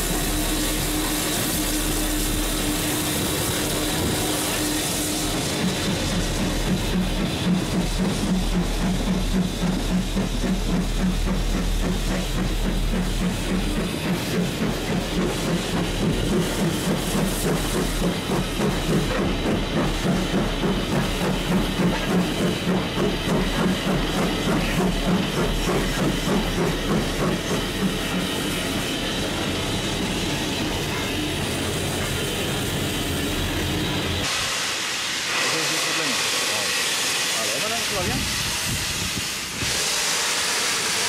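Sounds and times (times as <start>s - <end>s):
steam locomotive rhythmic beat: 0.0s - 41.0s.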